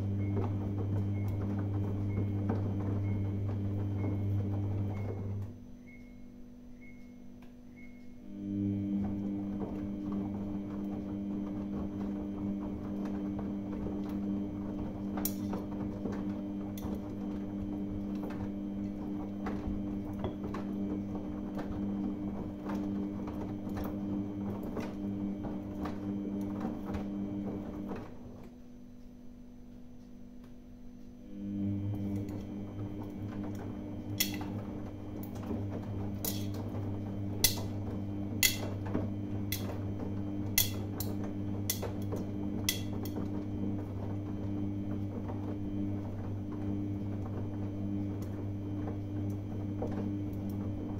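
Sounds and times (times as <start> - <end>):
laundry tumbling and sloshing: 0.0 - 5.5, 8.6 - 28.5, 31.5 - 50.9
washing machine drum humming: 0.0 - 50.9.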